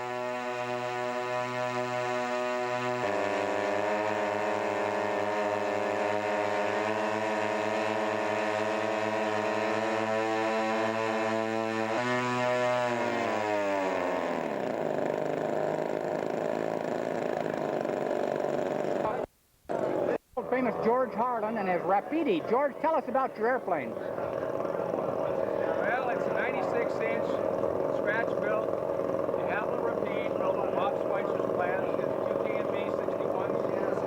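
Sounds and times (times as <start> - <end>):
model aircraft engine buzzing: 0.0 - 34.0.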